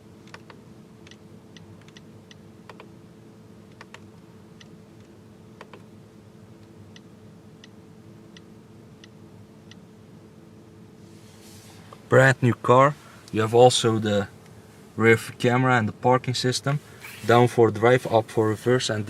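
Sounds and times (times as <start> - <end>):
low cabin hum: 0.0 - 19.0.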